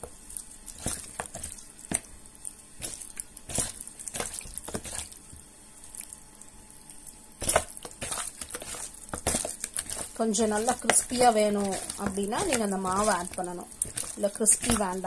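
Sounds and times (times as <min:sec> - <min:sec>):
wet squelching of meat kneaded: 0:00.2 - 0:15.0.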